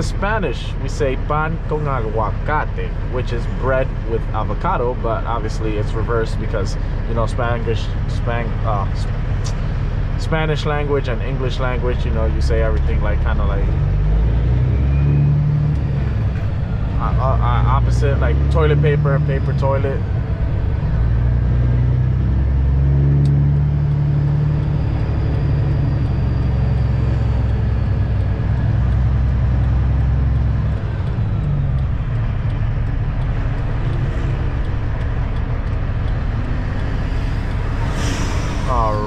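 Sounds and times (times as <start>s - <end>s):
diesel truck engine drone: 0.0s - 39.0s
road noise inside cab: 0.0s - 39.0s.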